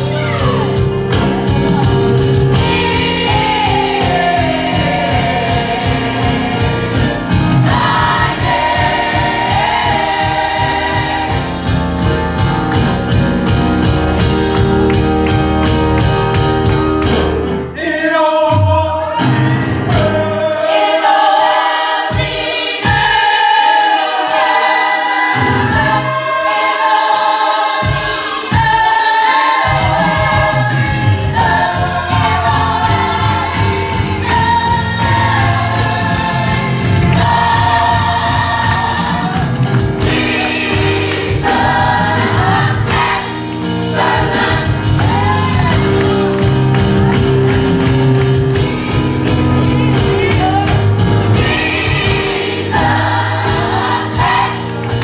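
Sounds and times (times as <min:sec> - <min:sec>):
band with bass and drums: 0:00.0 - 0:17.8, 0:18.4 - 0:20.5, 0:27.2 - 0:55.0
gospel choir singing: 0:00.0 - 0:55.0.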